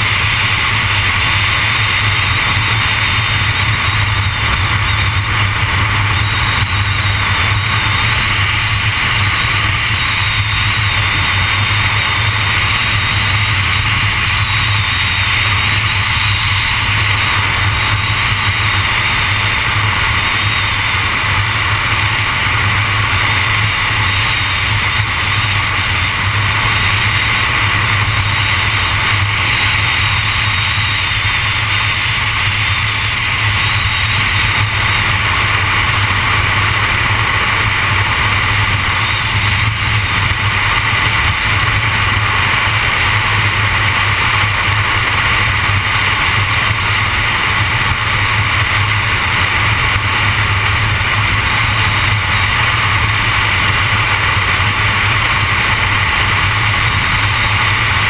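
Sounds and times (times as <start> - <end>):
low engine drone: 0.0 - 58.0
road and wind noise: 0.0 - 58.0.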